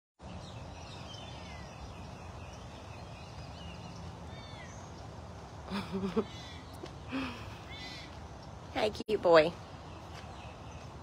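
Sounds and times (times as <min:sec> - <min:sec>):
faint birdsong: 0:00.2 - 0:11.0.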